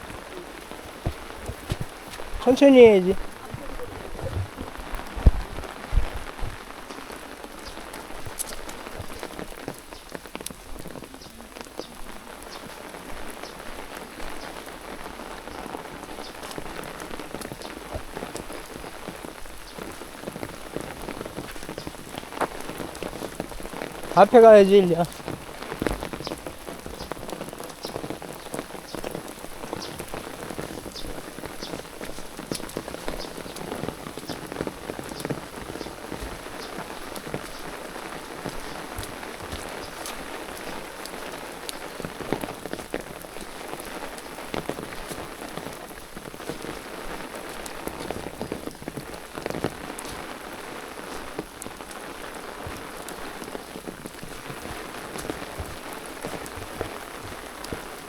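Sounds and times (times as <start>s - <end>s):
raindrops ticking: 0.0s - 58.0s
steady rain hiss: 0.0s - 58.0s.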